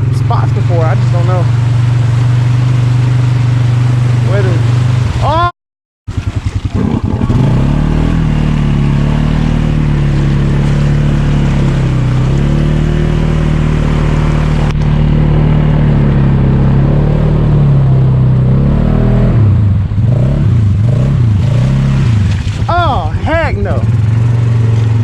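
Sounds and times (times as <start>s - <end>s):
off-road engine revving: 0.0s - 5.5s, 6.1s - 25.0s.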